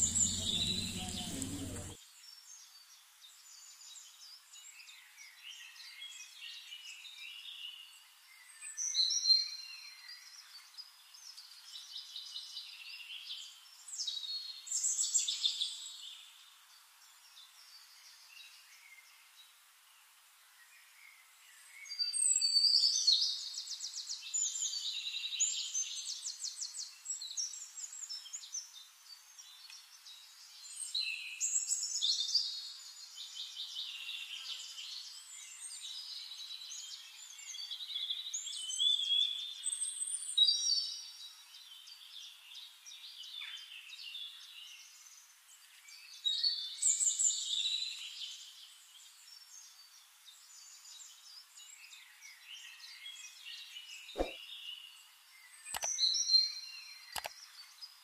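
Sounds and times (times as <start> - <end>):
songbirds singing: 0.0 - 19.6, 20.6 - 58.0.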